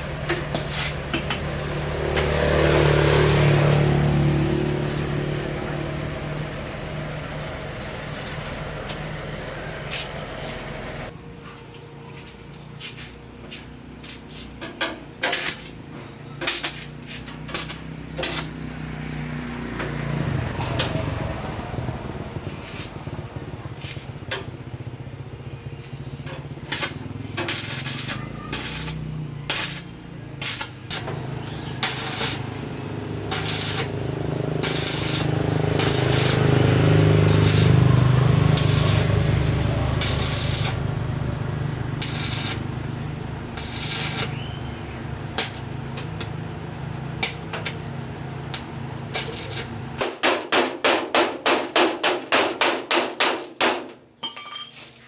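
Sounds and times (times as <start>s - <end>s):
low motor hum: 0.0s - 12.8s, 18.0s - 49.9s.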